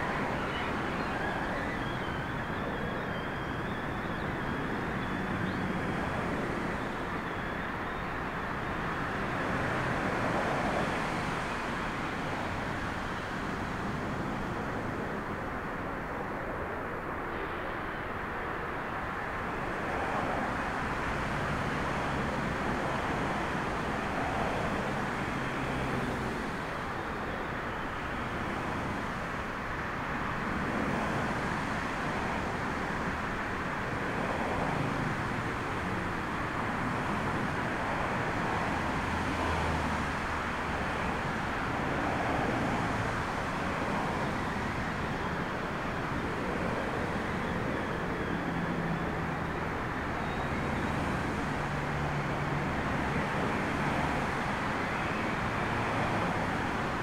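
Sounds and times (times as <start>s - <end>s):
distant traffic drone: 0.0s - 57.0s
jet engines: 0.0s - 57.0s.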